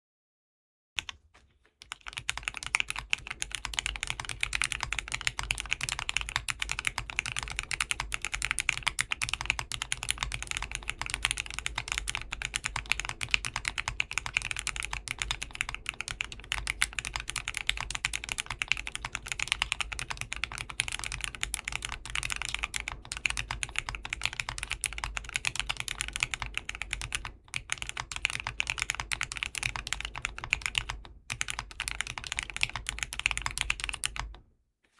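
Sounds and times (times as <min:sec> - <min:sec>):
fast mechanical keyboard typing: 0:01.8 - 0:34.4.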